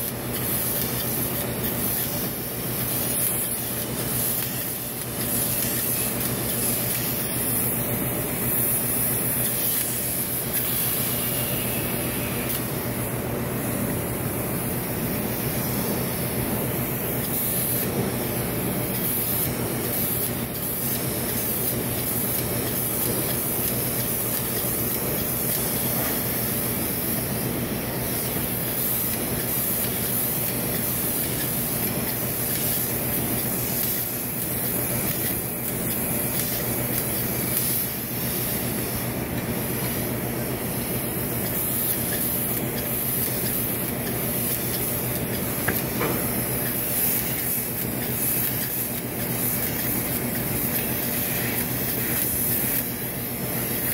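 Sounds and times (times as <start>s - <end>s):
spray gun hissing: 0.0s - 53.9s.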